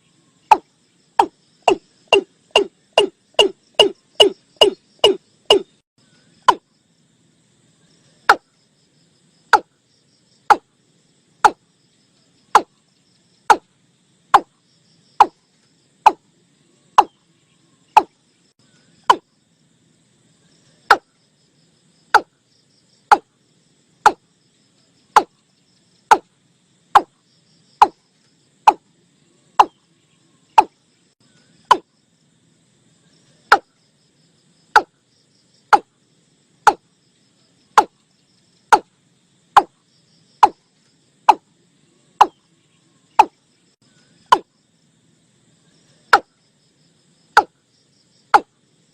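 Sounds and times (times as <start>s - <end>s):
faint crickets: 0.0s - 48.9s.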